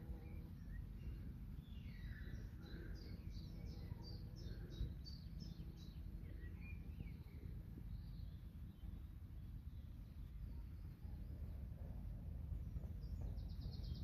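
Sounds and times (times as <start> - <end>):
birds chirping: 0.0 - 14.0
low background hum: 0.0 - 14.0.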